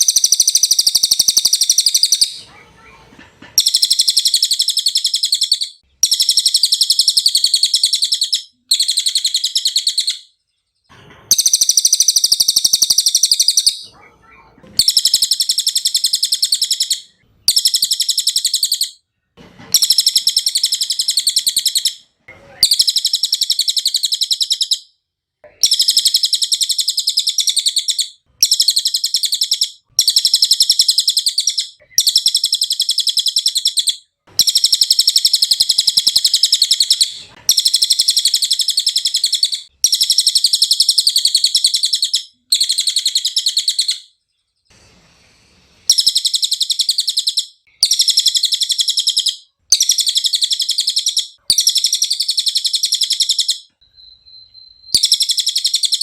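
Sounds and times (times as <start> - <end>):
parrot chirping trills: 0.0 - 10.4, 11.3 - 19.0, 19.7 - 24.9, 25.5 - 44.2, 45.9 - 56.0.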